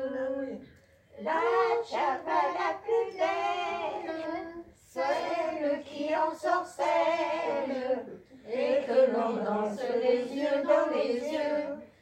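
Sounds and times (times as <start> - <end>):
women's choir singing: 0.0 - 12.0.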